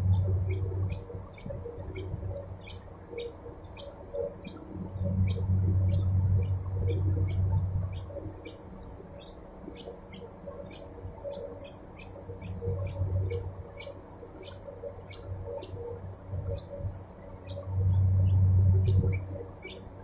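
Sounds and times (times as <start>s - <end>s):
nestlings chirping: 0.4s - 20.0s.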